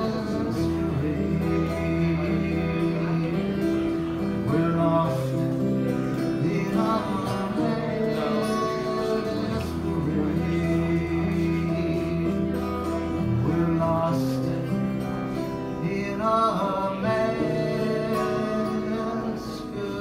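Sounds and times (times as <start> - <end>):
twelve-string acoustic guitar: 0.0 - 20.0.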